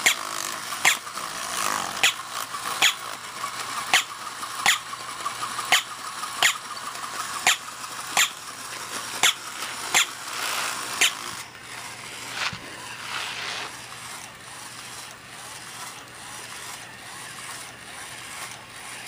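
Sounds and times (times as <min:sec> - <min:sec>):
small motor whirring: 0:00.0 - 0:19.0.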